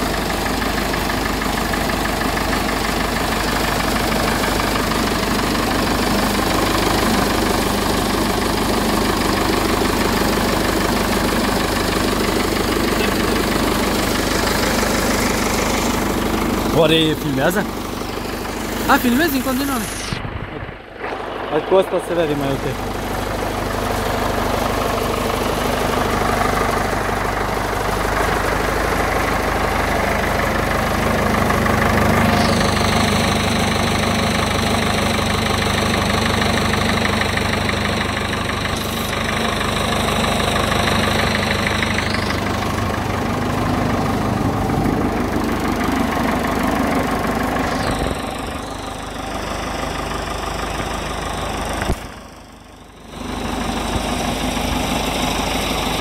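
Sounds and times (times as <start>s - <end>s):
tractor diesel engine idling: 0.0s - 56.0s.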